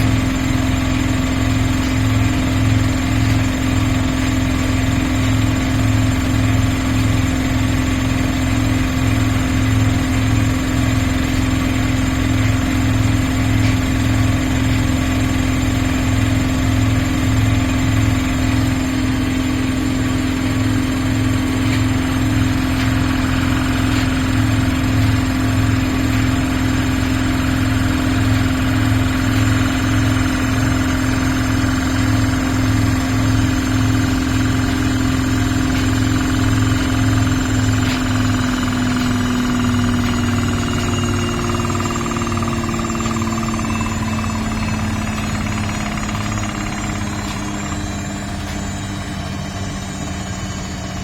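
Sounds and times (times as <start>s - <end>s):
washing machine motor hum: 0.0s - 51.0s.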